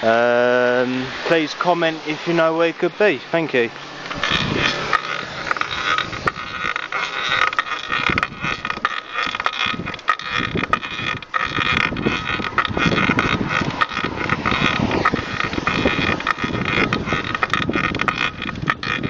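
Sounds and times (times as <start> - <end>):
bicycle squeaking and creaking: 0.0 - 19.0.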